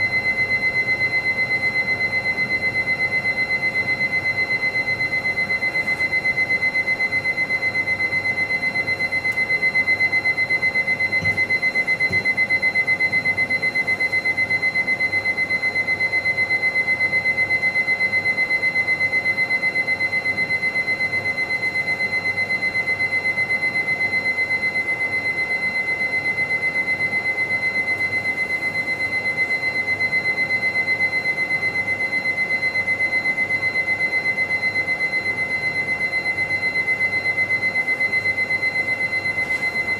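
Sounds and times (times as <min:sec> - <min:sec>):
high pulsing alarm-like tone: 0:00.0 - 0:39.9.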